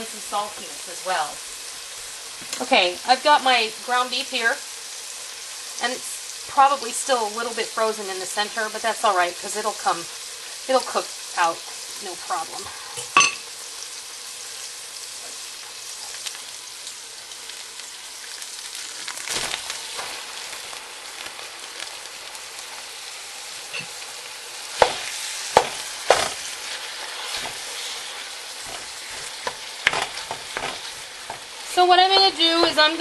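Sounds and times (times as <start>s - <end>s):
onion and garlic sizzling: 0.0s - 33.0s.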